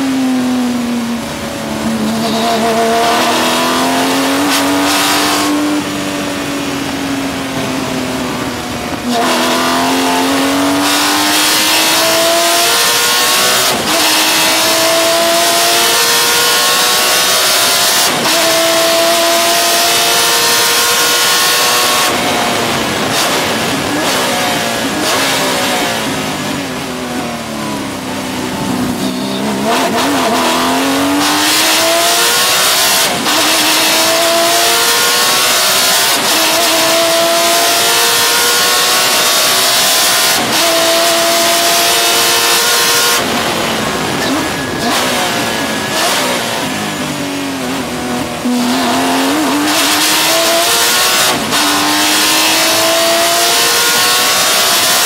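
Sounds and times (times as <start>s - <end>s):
race car engine shifting gears: 1.2s - 6.5s, 7.4s - 55.0s.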